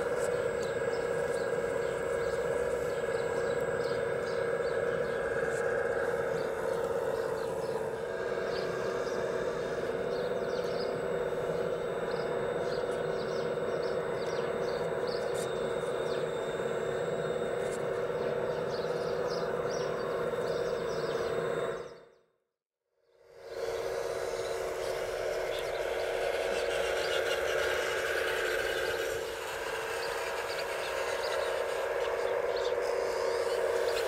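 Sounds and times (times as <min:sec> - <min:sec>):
birds chirping: 0:00.0 - 0:22.2, 0:23.7 - 0:34.0
hydraulic pump whine: 0:00.0 - 0:22.2, 0:23.0 - 0:34.0.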